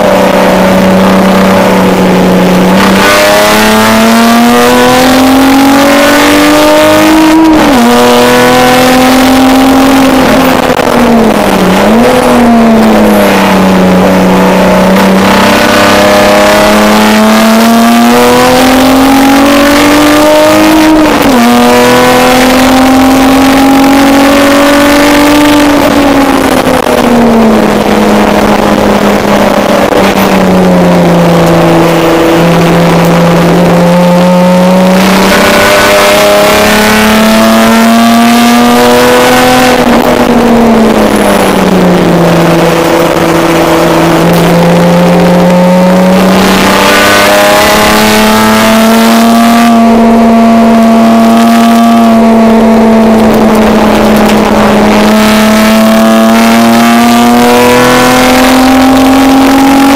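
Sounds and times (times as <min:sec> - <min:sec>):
race car engine revving: 0:00.0 - 0:59.9
road and wind noise: 0:00.0 - 0:59.9.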